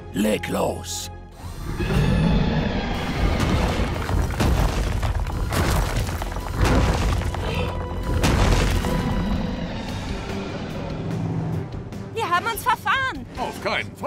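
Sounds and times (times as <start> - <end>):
dramatic background music: 0.0 - 14.0.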